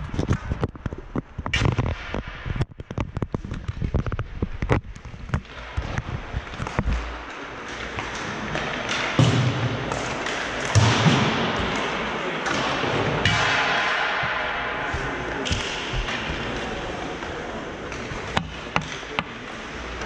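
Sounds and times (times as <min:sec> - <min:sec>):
steady din of hockey rink: 0:00.0 - 0:20.0
pucks or sticks hitting boards: 0:00.1 - 0:20.0.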